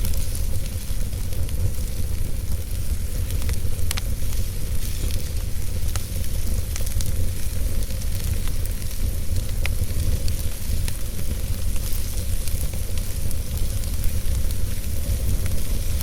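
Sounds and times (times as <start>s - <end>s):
burning logs crackling and popping: 0.0s - 16.0s
fire rumbling and hissing: 0.0s - 16.0s.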